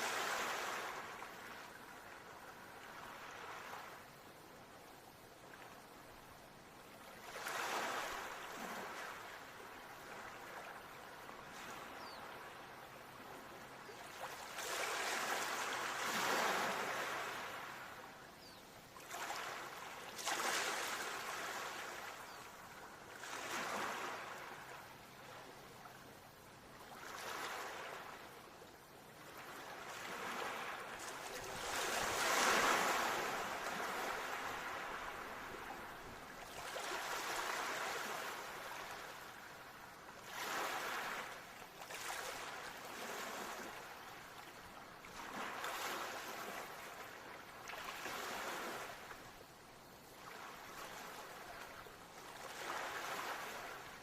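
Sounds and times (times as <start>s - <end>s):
ocean waves breaking on shore: 0.0s - 4.2s, 7.0s - 28.4s, 29.0s - 54.0s.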